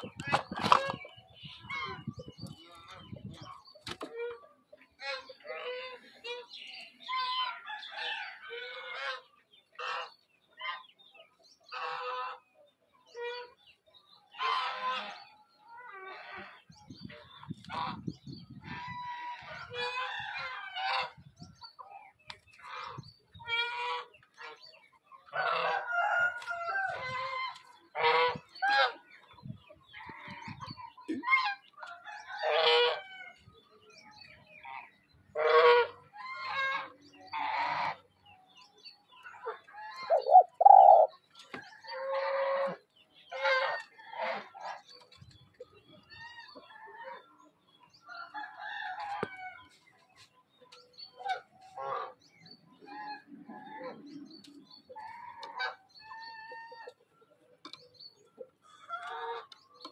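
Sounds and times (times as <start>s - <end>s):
birds calling: 0.0s - 59.9s.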